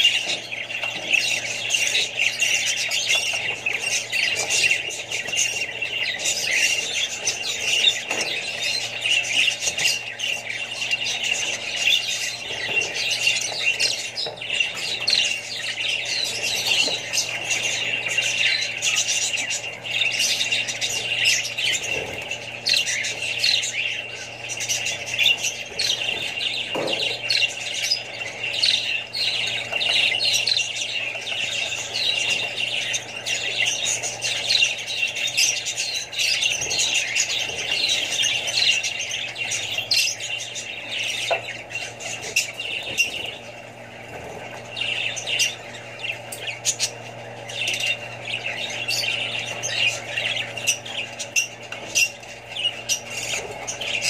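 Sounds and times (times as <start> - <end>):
budgerigars chattering and chirping: 0.0 - 54.0
steady low hum: 0.0 - 54.0.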